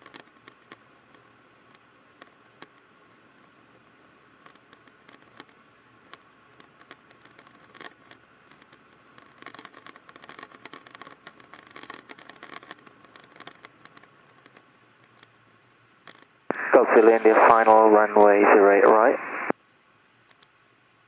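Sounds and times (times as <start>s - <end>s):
scratchy clicks and crackles: 0.0s - 19.5s, 20.2s - 20.6s
faint steady hiss: 0.0s - 21.0s.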